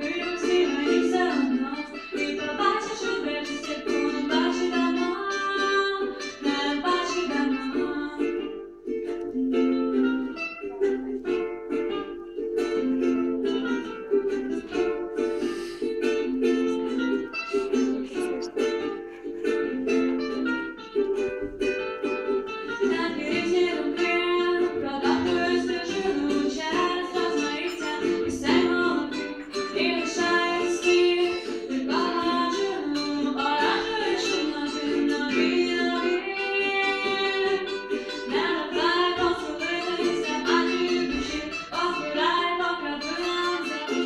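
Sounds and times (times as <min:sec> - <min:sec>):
person singing: 0:00.0 - 0:08.6, 0:12.8 - 0:21.1, 0:22.8 - 0:44.0
small plucked-string instrument: 0:00.0 - 0:44.0
ukulele: 0:00.0 - 0:44.0.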